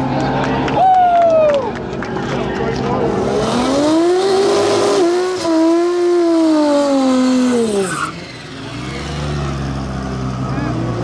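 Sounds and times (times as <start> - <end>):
drag racing car engine revving: 1.8 - 11.0.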